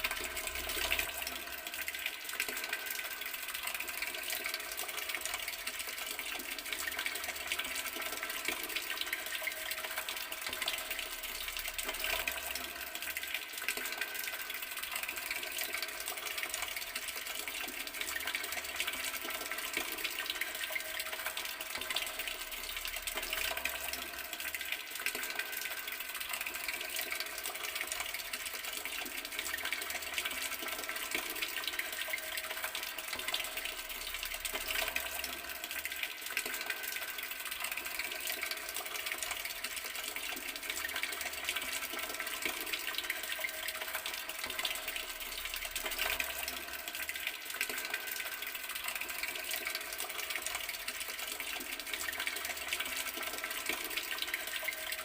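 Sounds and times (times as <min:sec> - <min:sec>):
water running from tap: 0:00.0 - 0:55.0.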